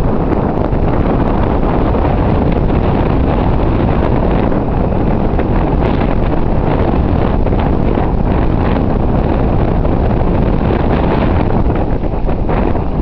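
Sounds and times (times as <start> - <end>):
wind blasting microphone: 0.0 - 13.0.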